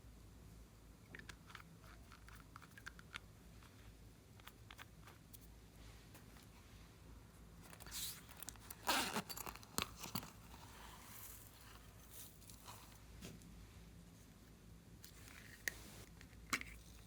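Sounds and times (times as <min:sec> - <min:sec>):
crackly handling noises: 0:01.0 - 0:17.0.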